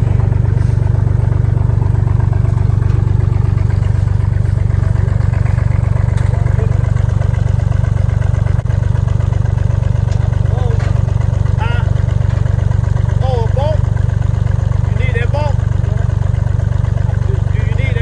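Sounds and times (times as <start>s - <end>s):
engine idling loudly: 0.0s - 18.0s.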